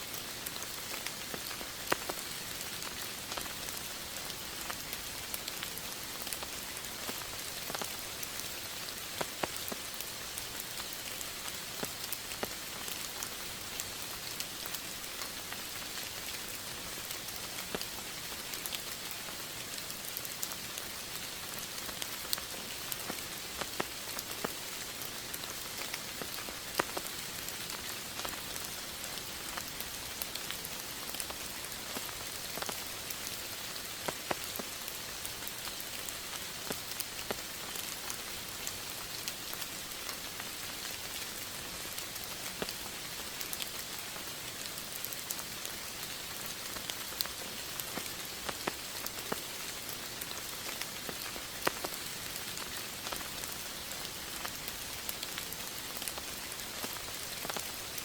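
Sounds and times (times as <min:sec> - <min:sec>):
raindrops striking a surface: 0:00.0 - 0:58.0
steady rain falling: 0:00.0 - 0:58.0.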